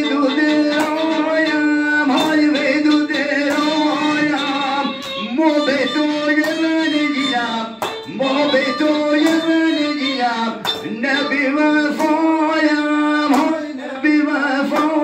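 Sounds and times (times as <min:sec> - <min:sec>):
hand claps: 0:00.0 - 0:13.8, 0:14.6 - 0:15.0
man singing folk song: 0:00.0 - 0:15.0
violin: 0:00.0 - 0:15.0.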